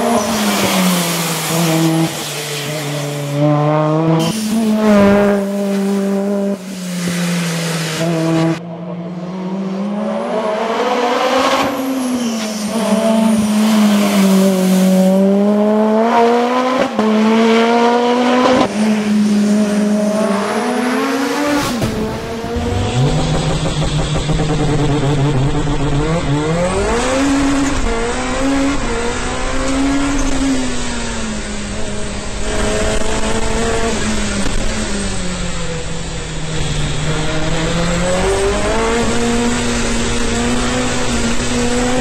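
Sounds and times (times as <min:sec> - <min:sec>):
race car engine revving: 0:00.0 - 0:42.0
road and wind noise: 0:00.0 - 0:42.0.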